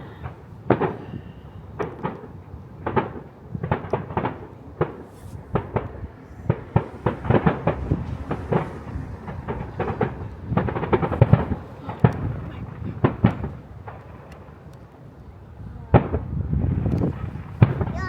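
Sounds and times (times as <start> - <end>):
firework bursts and cracks: 0.0 - 15.1, 15.9 - 18.0.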